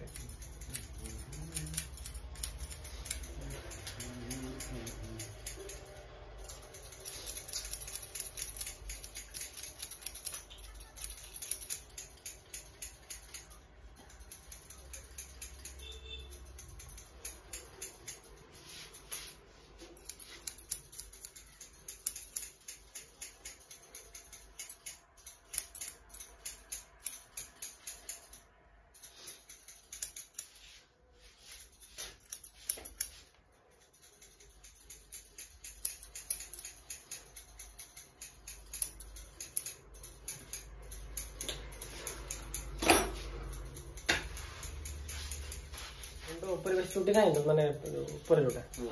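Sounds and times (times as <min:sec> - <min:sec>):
scissors snipping hair: 0:00.0 - 0:48.9.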